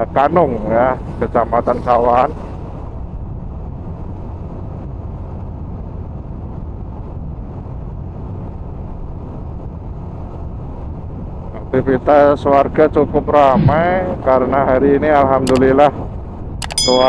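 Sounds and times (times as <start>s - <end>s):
wind over microphone: 0.0s - 17.0s.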